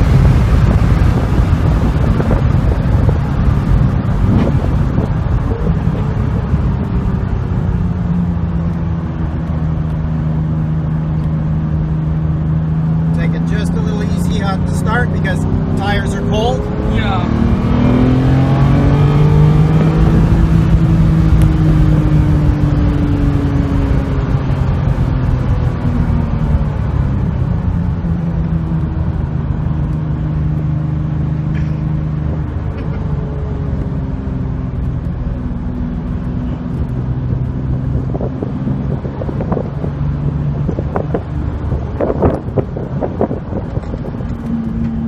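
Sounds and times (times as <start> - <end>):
car engine: 0.0 - 45.0
road noise inside car: 0.0 - 45.0.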